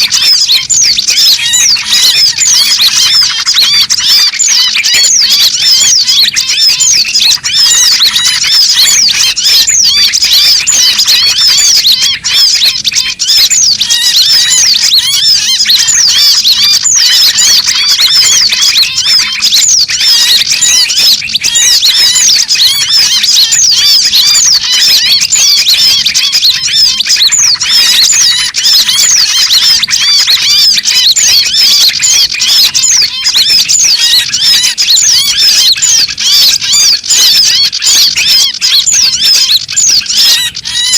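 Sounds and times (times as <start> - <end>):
small birds chattering: 0.0 - 40.9.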